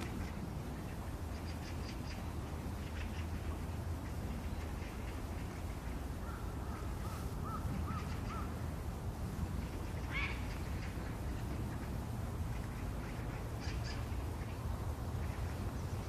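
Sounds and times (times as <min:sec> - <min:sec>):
bird calling: 0:00.0 - 0:08.7, 0:09.5 - 0:16.0.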